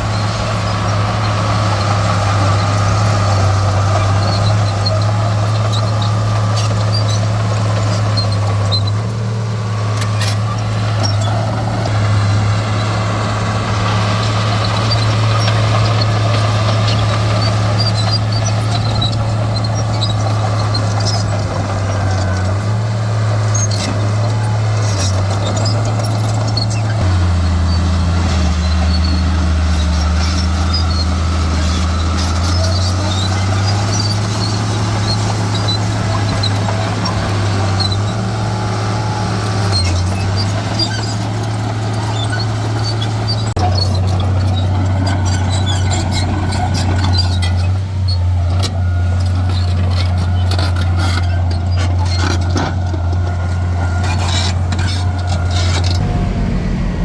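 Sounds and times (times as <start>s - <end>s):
heavy diesel engine running: 0.0s - 57.0s
short high squeaks: 0.1s - 11.9s, 13.7s - 22.8s, 23.4s - 56.1s.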